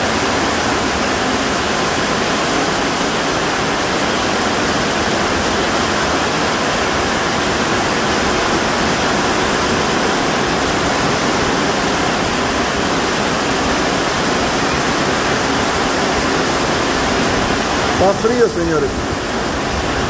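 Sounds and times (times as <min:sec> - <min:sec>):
heavy rain downpour: 0:00.0 - 0:20.0
water streaming off metal roof: 0:00.0 - 0:20.0.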